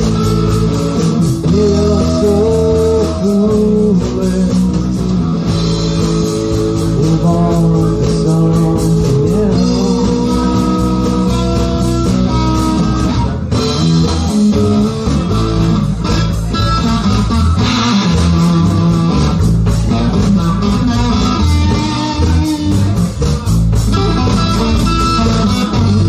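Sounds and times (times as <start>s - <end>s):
bass guitar: 0.0s - 26.0s
drums: 0.0s - 26.0s
electric guitar: 0.0s - 26.0s.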